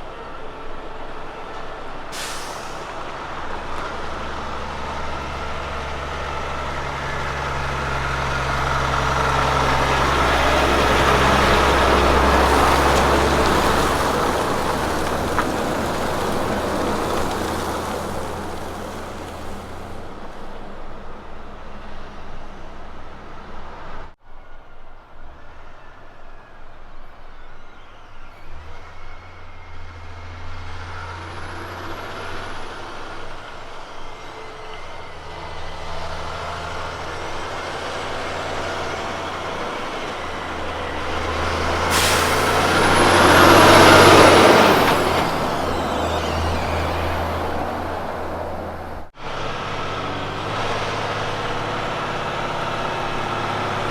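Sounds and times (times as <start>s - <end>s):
truck driving past: 0.0s - 24.2s, 28.4s - 53.9s
truck engine running: 0.0s - 24.2s, 29.2s - 53.9s.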